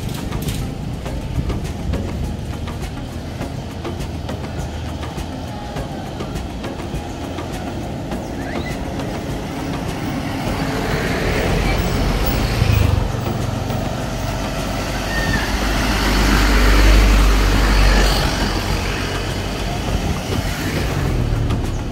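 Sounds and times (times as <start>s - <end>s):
bus driving past: 0.0s - 21.9s
road traffic: 0.0s - 21.9s.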